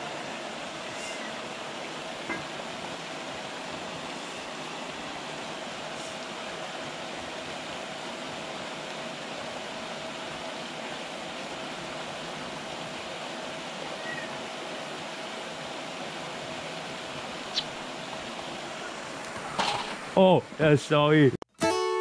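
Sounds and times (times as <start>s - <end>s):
faint hum: 0.0s - 20.9s.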